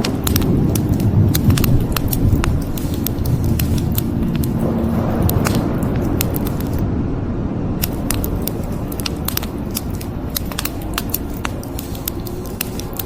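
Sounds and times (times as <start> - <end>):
wood fire crackling: 0.0 - 6.8, 7.8 - 13.0.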